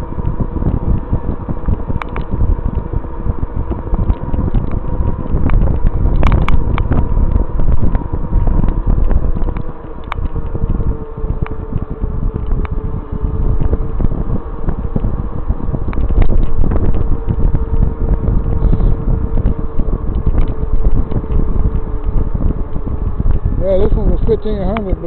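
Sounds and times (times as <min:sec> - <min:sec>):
bike clicks and rattles: 0:00.0 - 0:25.0
faint motor whine: 0:00.0 - 0:25.0
wind buffeting microphone: 0:00.0 - 0:25.0.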